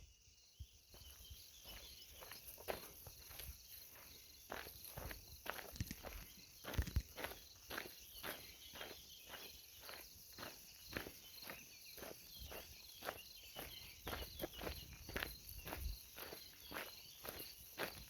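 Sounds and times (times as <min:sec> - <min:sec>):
chirping insects: 0:00.0 - 0:18.0
footsteps walking: 0:01.0 - 0:18.0.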